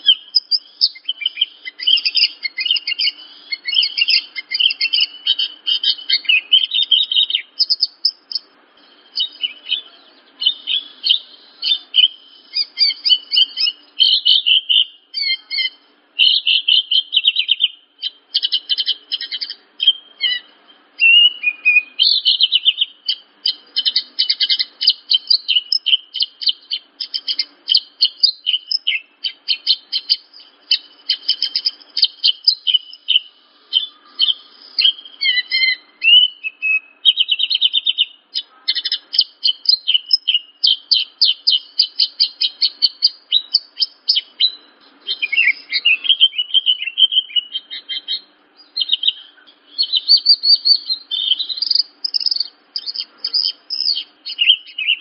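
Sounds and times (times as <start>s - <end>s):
lark singing chirps and trills: 0.0s - 55.0s.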